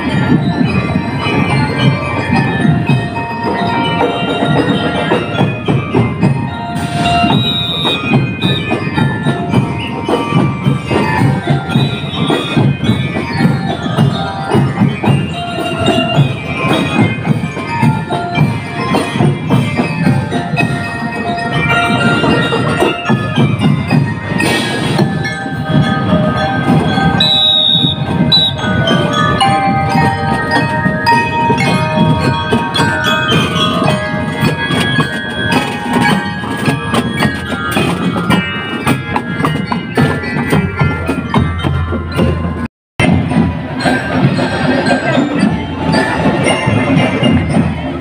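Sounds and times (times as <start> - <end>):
bell lyres playing melody: 0.0 - 48.0
marching drums: 0.0 - 48.0.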